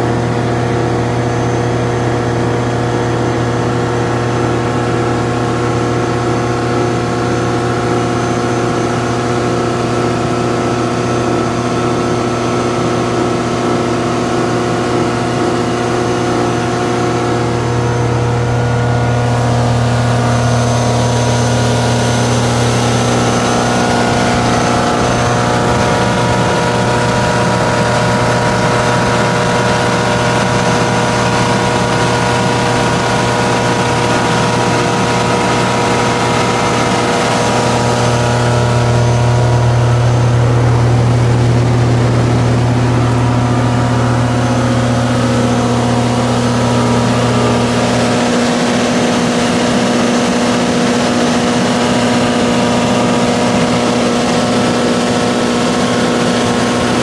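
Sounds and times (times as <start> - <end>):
generator engine humming: 0.0 - 57.0.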